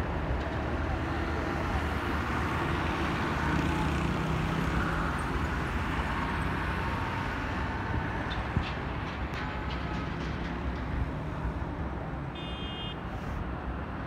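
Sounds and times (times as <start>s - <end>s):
city traffic hum: 0.0s - 14.0s.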